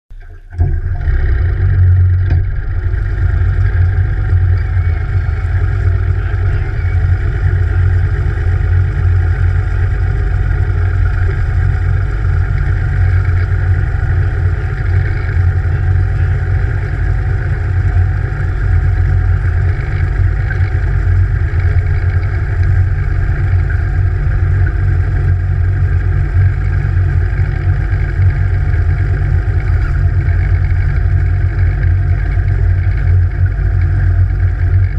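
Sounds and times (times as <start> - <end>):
outboard motor droning: 0.1 - 34.9.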